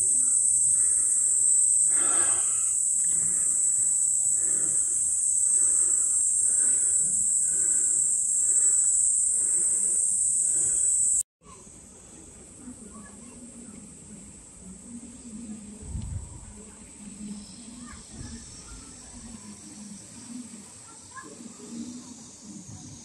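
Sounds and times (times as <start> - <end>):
cicada chorus: 0.0 - 11.9, 16.4 - 23.0.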